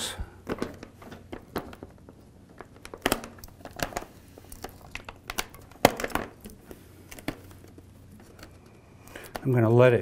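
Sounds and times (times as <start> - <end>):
plastic film crackling: 0.5 - 9.5.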